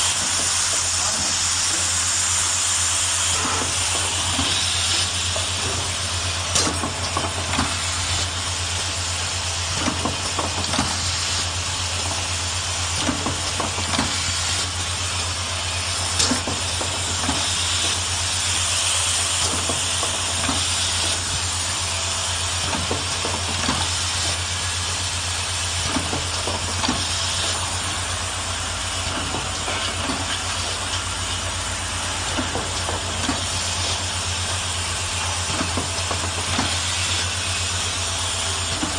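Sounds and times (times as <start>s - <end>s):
machine humming and hissing: 0.0s - 38.9s
pneumatic clicks and clacks: 0.0s - 38.9s.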